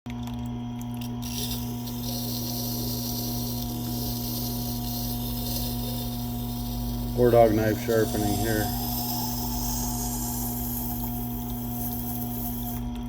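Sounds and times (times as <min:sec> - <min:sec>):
sharpener motor hum: 0:01.0 - 0:13.0
knife grinding on wet stone: 0:01.1 - 0:12.9.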